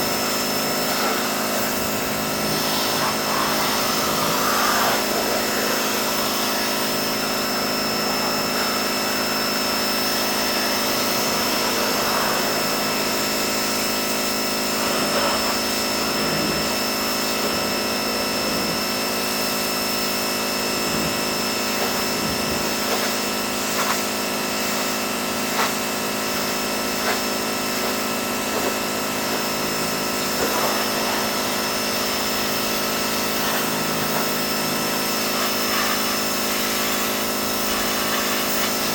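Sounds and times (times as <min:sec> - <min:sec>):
pressure washer hum: 0:00.0 - 0:38.9
water spray hiss: 0:00.0 - 0:38.9.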